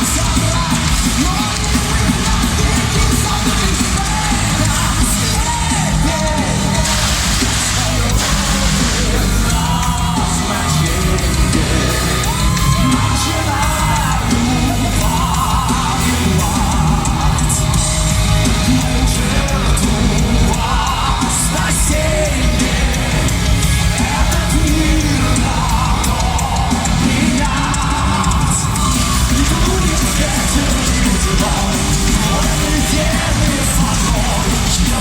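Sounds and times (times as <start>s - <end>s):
person singing: 0.0s - 35.0s
power metal band playing: 0.0s - 35.0s.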